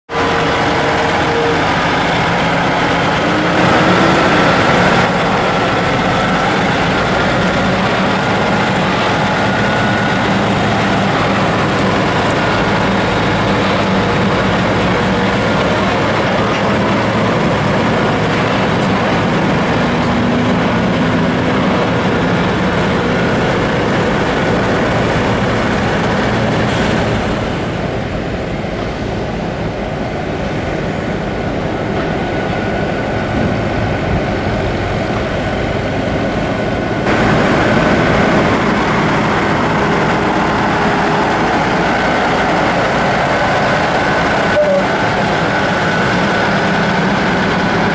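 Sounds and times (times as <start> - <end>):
diesel trucks rumbling: 0.0 - 47.9.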